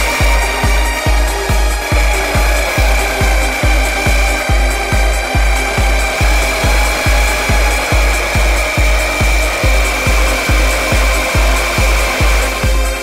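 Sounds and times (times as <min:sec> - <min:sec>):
driving kick drum: 0:00.0 - 0:13.0
electronic dance music: 0:00.0 - 0:13.0
ticking hi-hats: 0:00.0 - 0:13.0.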